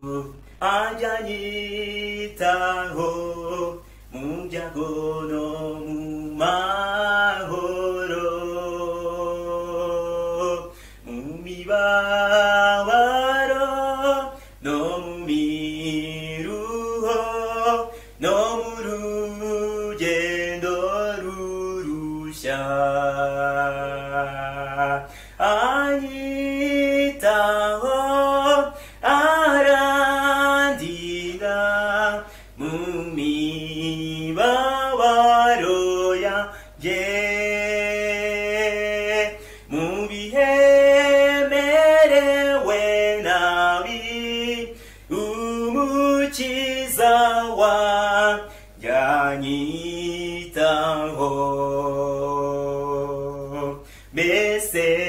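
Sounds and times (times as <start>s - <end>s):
man singing a hymn: 0.0s - 55.0s.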